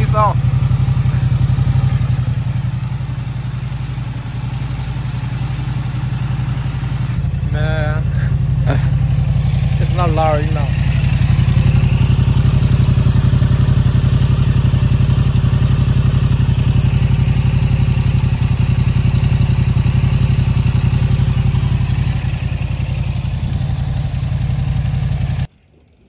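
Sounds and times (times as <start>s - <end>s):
motorcycle engine idling: 0.0s - 25.6s.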